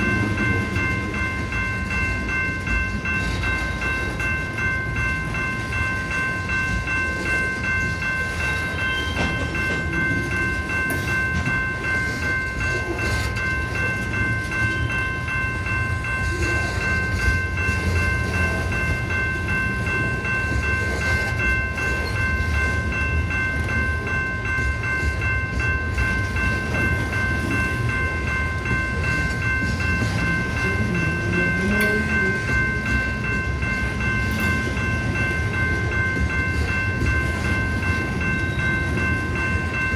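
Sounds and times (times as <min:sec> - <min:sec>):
crossing warning bells ringing: 0:00.0 - 0:39.9
train rumbling on rails: 0:00.0 - 0:39.9.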